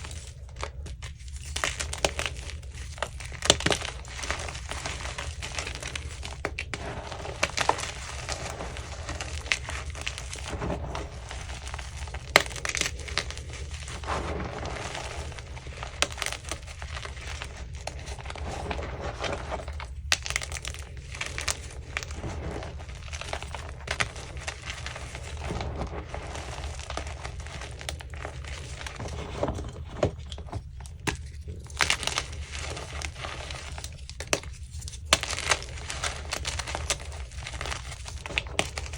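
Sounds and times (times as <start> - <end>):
chalk crunching and crackling: 0.0 - 38.9.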